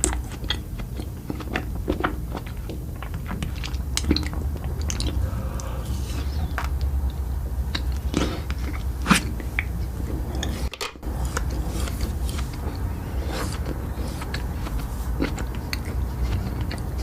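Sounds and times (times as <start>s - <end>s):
chewing with crisp crunches: 0.0s - 17.0s
steady low hum: 0.0s - 17.0s.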